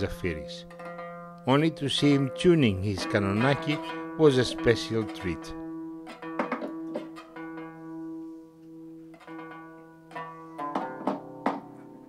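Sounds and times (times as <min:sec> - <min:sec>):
plucked zither strings: 0:00.0 - 0:12.0.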